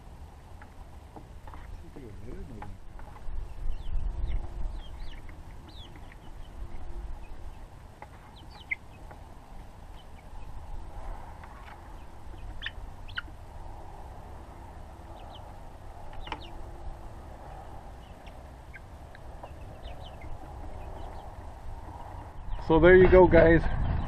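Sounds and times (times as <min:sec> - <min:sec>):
low background rush: 0:00.0 - 0:24.0
young chickens peeping: 0:00.0 - 0:24.0.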